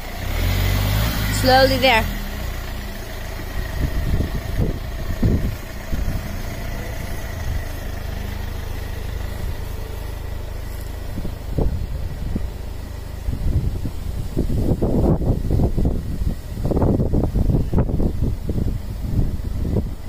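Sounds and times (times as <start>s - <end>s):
diesel engine low rumble: 0.0s - 20.0s.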